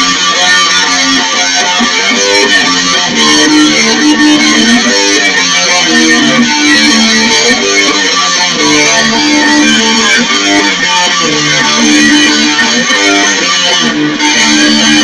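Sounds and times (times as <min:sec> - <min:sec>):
doom metal electric guitars: 0:00.0 - 0:15.0.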